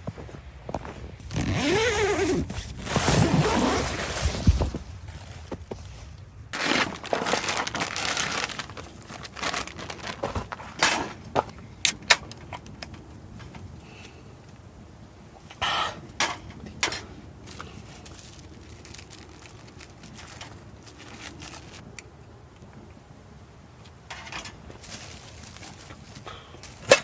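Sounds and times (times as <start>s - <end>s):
rustling and scraping: 0.8s - 14.1s, 15.5s - 22.0s, 23.9s - 27.0s.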